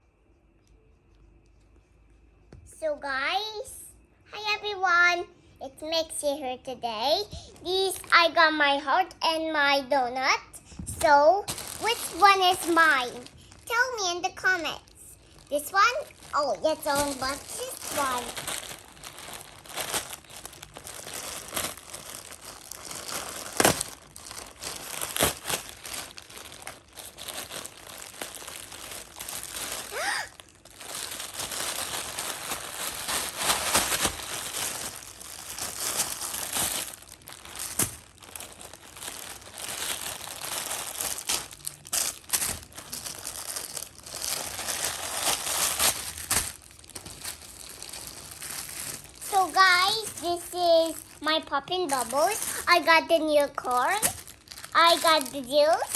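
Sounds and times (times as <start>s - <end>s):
plastic packaging crinkling: 7.3s - 8.4s, 10.6s - 55.9s.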